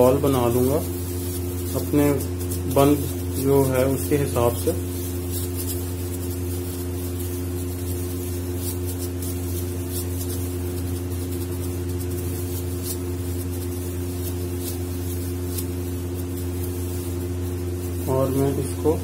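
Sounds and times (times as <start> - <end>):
machine hum: 0.0 - 19.0
plastic gloves crinkling: 0.0 - 19.0.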